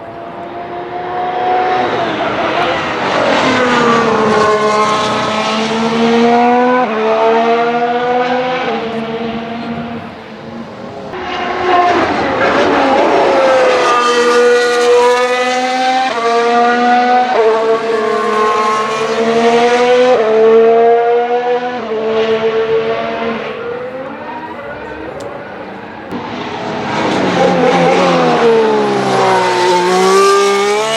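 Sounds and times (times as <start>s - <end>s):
race car engine accelerating: 0.0s - 30.9s.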